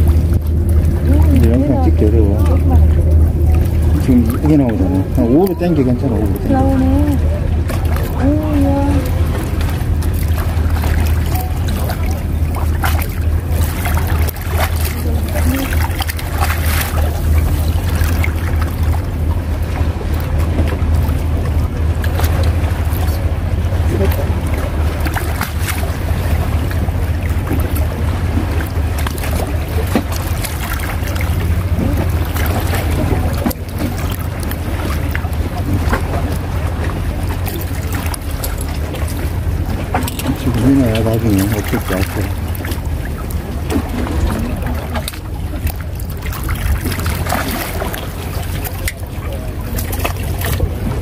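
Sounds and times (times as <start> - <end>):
sea water washing against rocks: 0.0 - 51.0
steady low rumble: 0.0 - 51.0.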